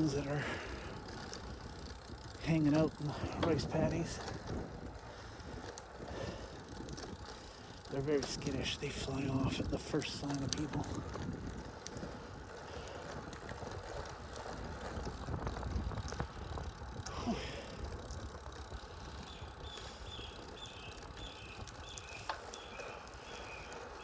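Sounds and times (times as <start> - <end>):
wind rumble on microphone: 0.0 - 22.8.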